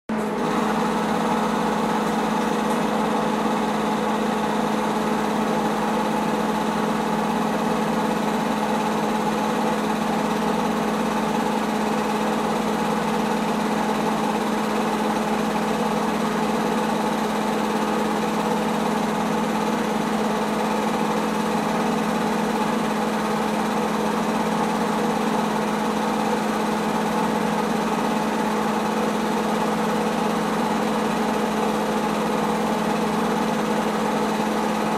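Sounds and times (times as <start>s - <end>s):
film projector motor whirring: 0.1s - 34.9s.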